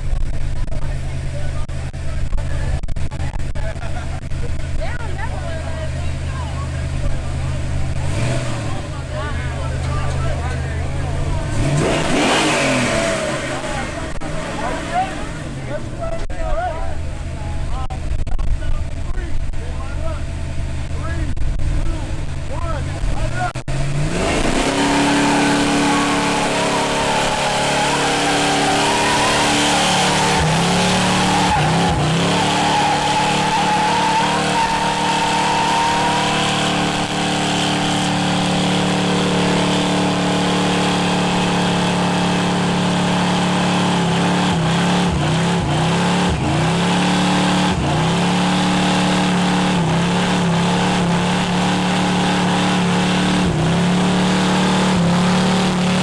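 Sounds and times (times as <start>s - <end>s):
car engine revving high: 0.0s - 56.0s.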